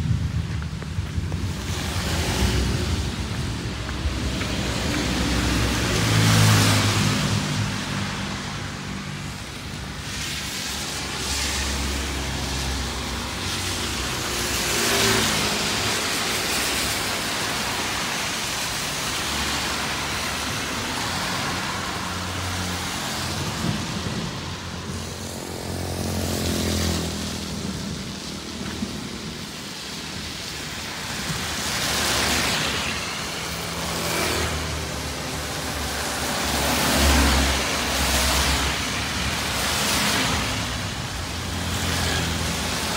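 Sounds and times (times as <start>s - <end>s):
tyres hissing on wet road: 0.0s - 42.9s.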